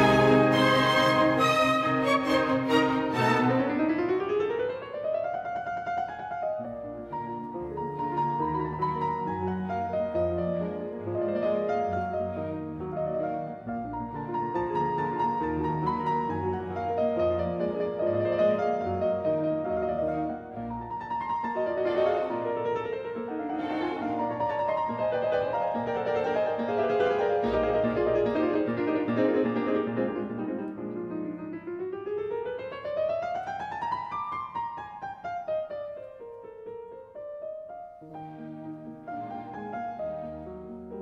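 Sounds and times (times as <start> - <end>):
classical piano music: 0.0 - 41.0.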